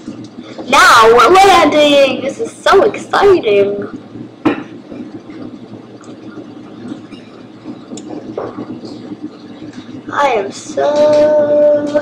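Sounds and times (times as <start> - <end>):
airliner engine and cabin drone: 0.0 - 12.0.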